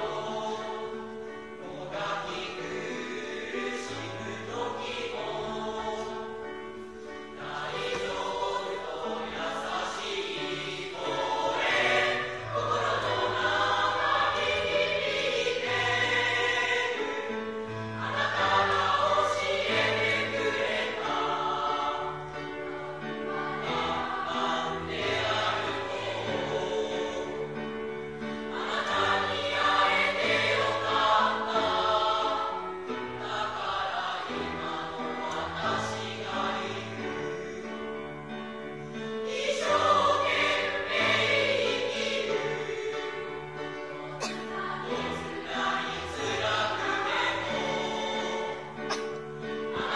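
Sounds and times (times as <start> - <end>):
children's choir singing: 0.0 - 49.9.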